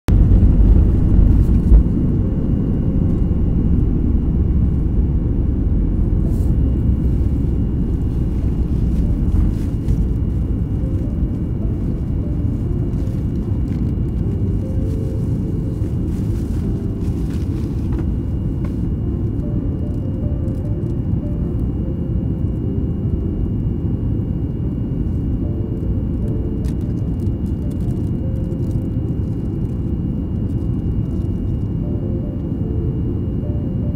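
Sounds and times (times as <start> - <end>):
jet engines rumbling in cabin: 0.1 - 33.9.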